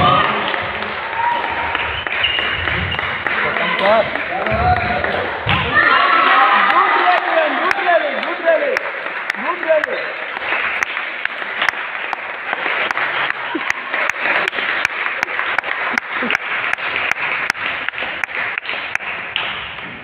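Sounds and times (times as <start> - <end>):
applause in echoing hall: 0.0 - 20.0
rhythmic clapping: 0.0 - 20.0.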